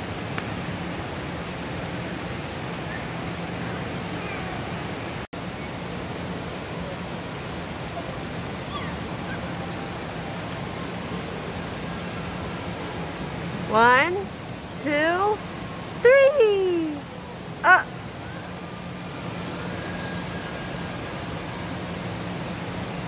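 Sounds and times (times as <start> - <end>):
fountain water rushing: 0.0 - 23.0.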